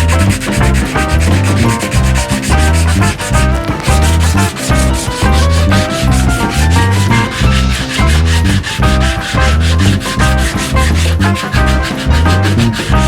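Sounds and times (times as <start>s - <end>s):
music with steady bass beat: 0.0s - 13.0s
rhythmic sanding on wood: 0.0s - 13.0s.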